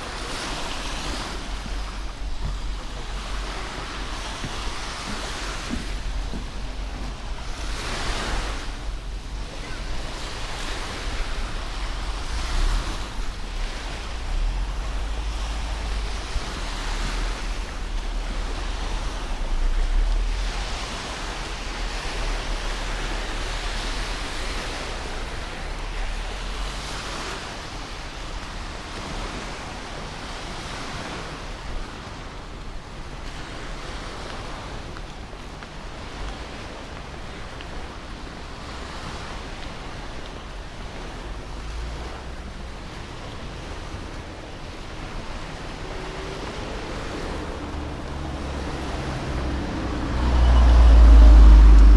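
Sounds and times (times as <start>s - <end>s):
waves washing onto a beach: 0.0s - 51.9s
wind rumble on microphone: 0.0s - 51.9s.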